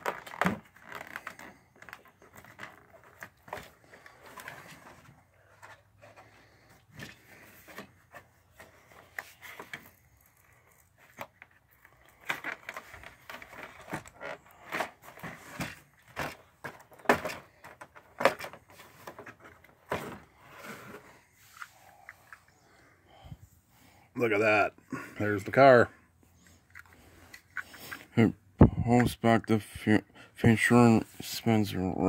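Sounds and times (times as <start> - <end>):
handling cardboard and plastic toys: 0.0 - 32.0.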